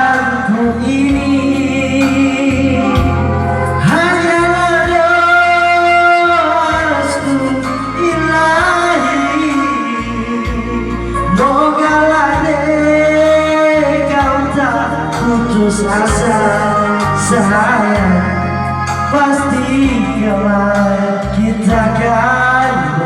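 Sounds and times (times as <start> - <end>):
backing music: 0.0 - 23.0
person singing long notes: 0.0 - 23.0.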